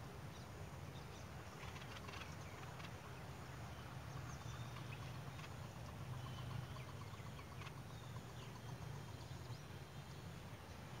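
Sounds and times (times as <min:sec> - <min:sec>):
faint bird chirps and whistles: 0:00.3 - 0:10.2.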